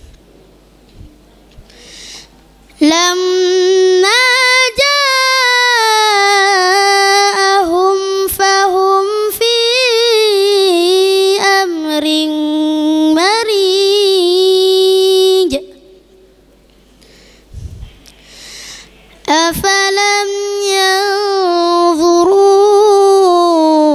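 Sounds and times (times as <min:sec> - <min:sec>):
boy reciting melodically into microphone: 0:00.9 - 0:16.2, 0:17.1 - 0:23.9.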